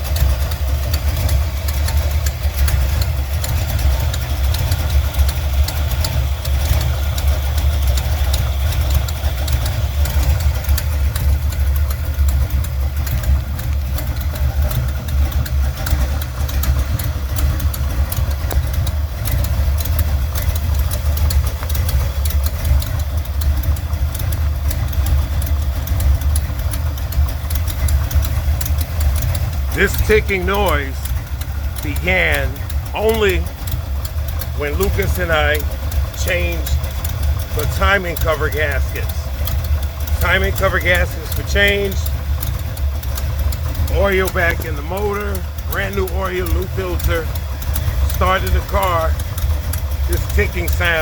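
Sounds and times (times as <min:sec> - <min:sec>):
engine idling: 0:00.0 - 0:51.0
fast light engine ticking: 0:00.0 - 0:51.0.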